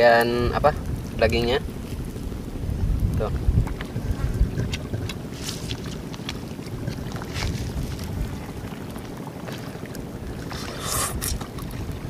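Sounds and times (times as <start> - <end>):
small clicks and crackles: 0.0 - 11.8
wind buffeting microphone: 0.0 - 12.0.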